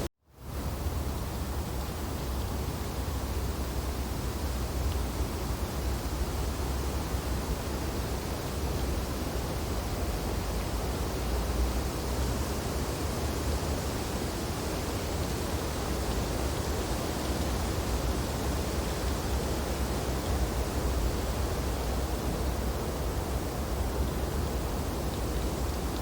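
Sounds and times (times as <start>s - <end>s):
wind through tree branches: 0.0s - 26.0s.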